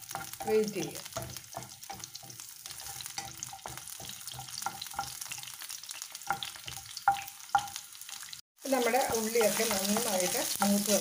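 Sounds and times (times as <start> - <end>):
shallots sizzling in oil: 0.0 - 11.0.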